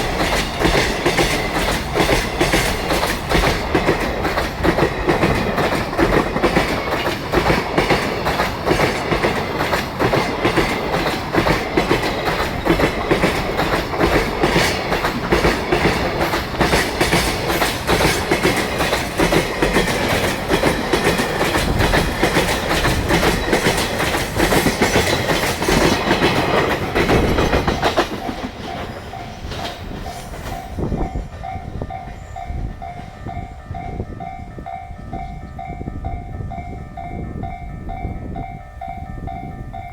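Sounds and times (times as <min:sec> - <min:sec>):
train wheels clattering over rail joints: 0:00.0 - 0:33.4
level-crossing alarm ringing: 0:00.0 - 0:39.9.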